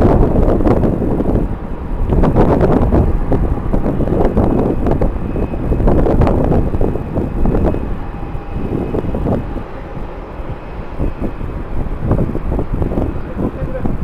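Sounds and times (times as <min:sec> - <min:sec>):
gusty wind buffeting microphone: 0:00.0 - 0:14.0
jet engines humming: 0:00.0 - 0:14.0.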